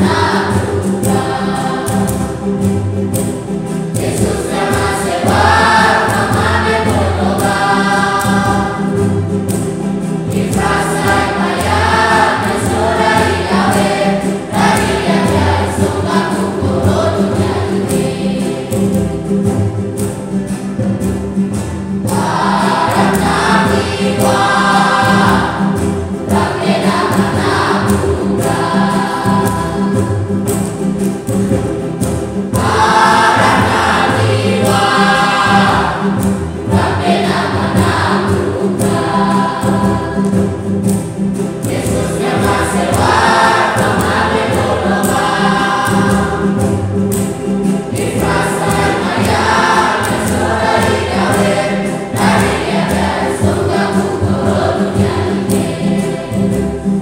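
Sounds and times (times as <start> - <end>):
youth choir singing: 0.0 - 2.8, 3.6 - 19.5, 22.0 - 31.0, 32.5 - 57.0.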